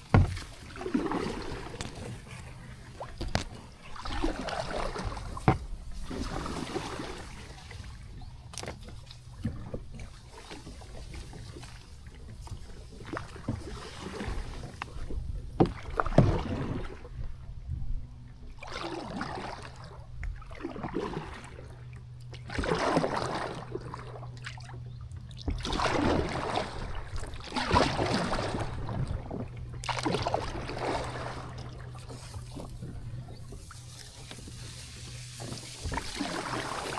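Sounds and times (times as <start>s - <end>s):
paddle splashing through water: 0.0s - 17.4s, 18.5s - 36.9s.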